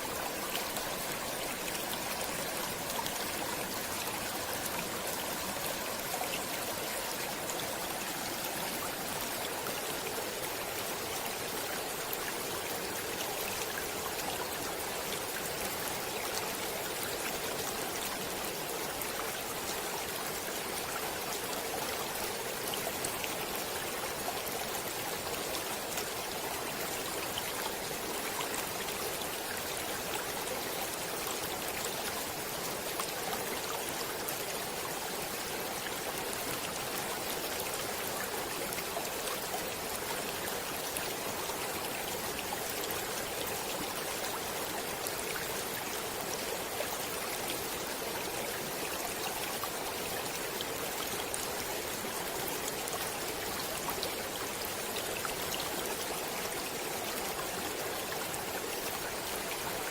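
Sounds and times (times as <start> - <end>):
water flowing in a stream: 0.0 - 59.9.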